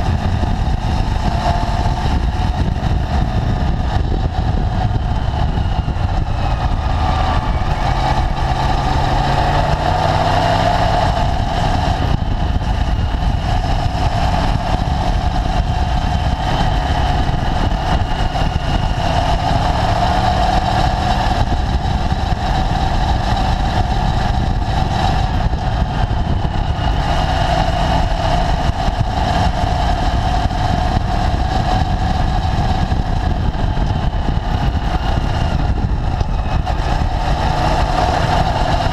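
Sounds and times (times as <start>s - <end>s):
motorcycle engine: 0.0s - 38.9s
road rumble: 0.0s - 38.9s
wind noise: 0.0s - 38.9s.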